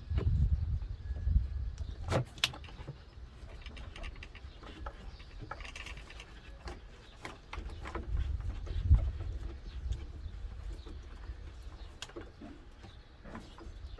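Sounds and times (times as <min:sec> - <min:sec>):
light clicks and knocks: 0:01.8 - 0:13.9.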